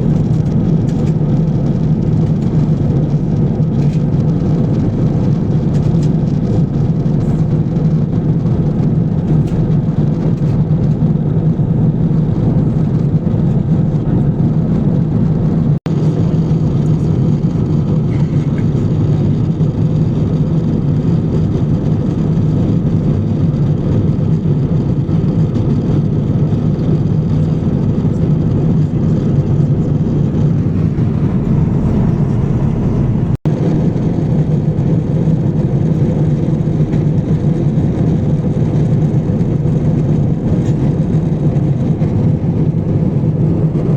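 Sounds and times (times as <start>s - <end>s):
airliner cabin drone: 0.0s - 43.9s.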